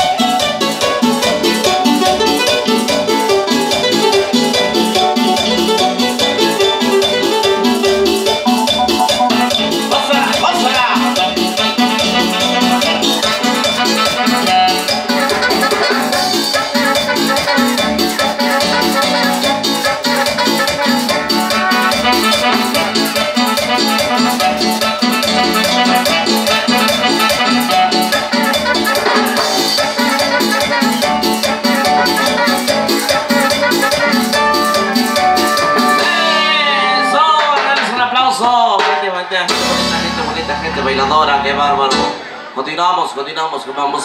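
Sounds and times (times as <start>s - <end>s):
shaken percussion beat: 0.0s - 36.5s
saxophones: 0.0s - 37.6s
live cumbia band: 0.0s - 44.0s.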